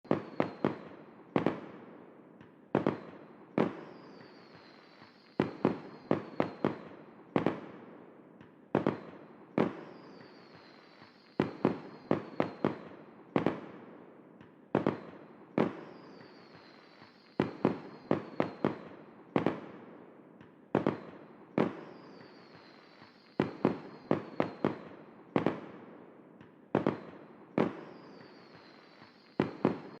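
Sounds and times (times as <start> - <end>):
high fizz of fireworks: 0.0 - 30.0.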